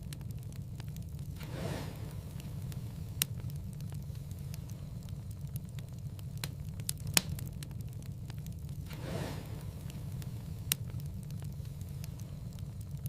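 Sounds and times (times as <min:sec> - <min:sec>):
fire crackles and pops: 0:00.0 - 0:13.0
fire flames rumbling: 0:00.0 - 0:13.0.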